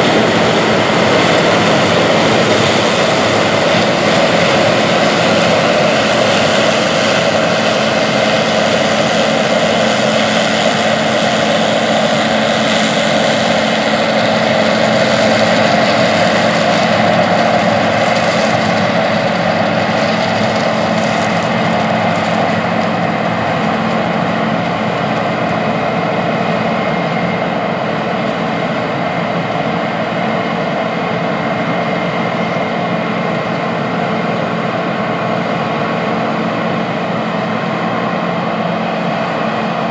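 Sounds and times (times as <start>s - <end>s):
combine harvester mechanical drone: 0.0s - 39.9s.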